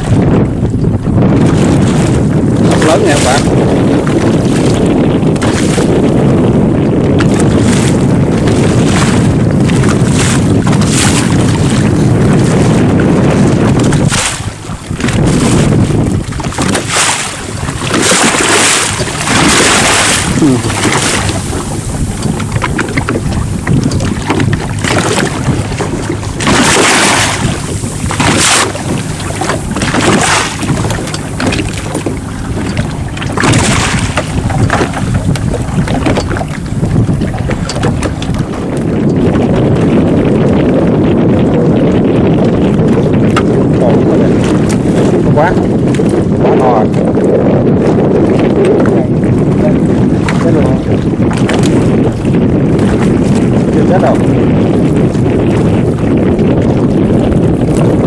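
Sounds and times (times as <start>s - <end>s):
heavy low rumble: 0.0s - 58.0s
water splashing against boat hull: 0.0s - 58.0s
wind buffeting microphone: 0.0s - 58.0s.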